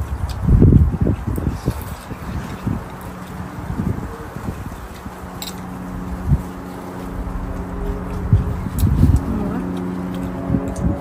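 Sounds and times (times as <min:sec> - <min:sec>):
wind buffeting microphone: 0:00.0 - 0:11.0
faint low hum: 0:01.8 - 0:11.0.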